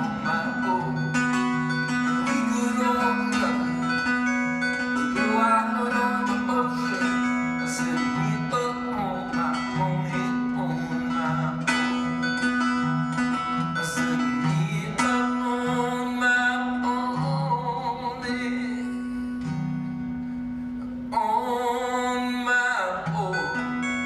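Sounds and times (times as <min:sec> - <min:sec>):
acoustic guitars strumming: 0:00.0 - 0:24.0.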